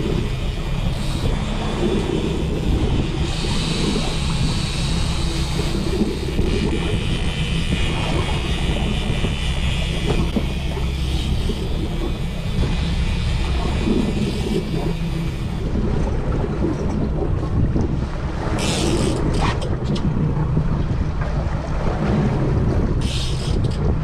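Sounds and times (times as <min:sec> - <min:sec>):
motorboat engine humming: 0:00.0 - 0:24.0
wind and water hiss: 0:00.0 - 0:24.0.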